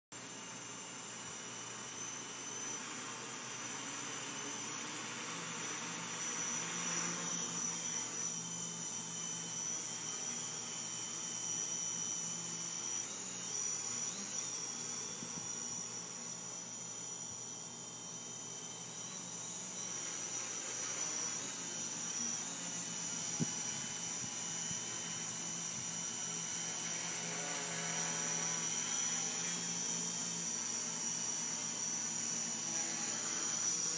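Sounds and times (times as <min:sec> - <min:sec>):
drone propellers whining: 0:00.2 - 0:33.9.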